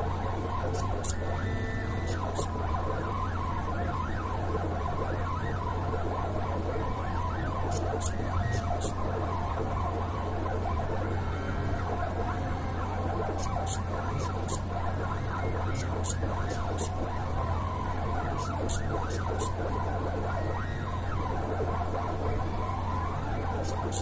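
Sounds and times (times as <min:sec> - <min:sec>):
steady low hum: 0:00.0 - 0:24.0
stepper motors whining: 0:00.0 - 0:24.0.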